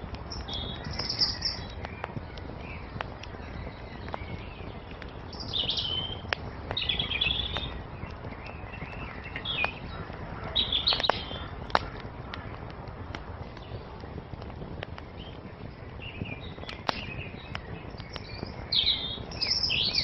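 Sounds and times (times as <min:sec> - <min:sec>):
songbirds chirping: 0:00.0 - 0:20.0
wood fire crackling: 0:00.0 - 0:20.0.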